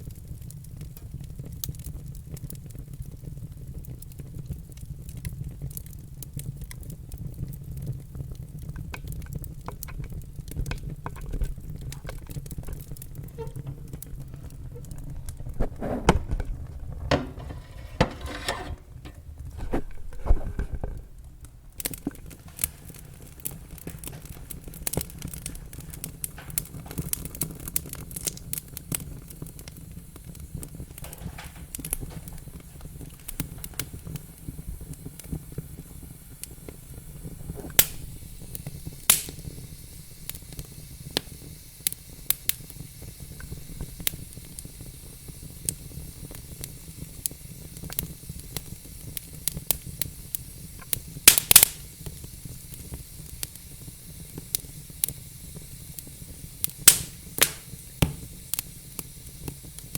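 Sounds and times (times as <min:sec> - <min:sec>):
log fire crackling and popping: 0:00.0 - 0:59.9.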